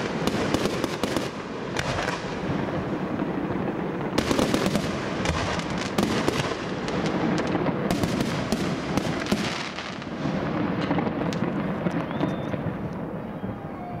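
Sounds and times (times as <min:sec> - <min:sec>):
fireworks cracks and bangs: 0:00.0 - 0:14.0.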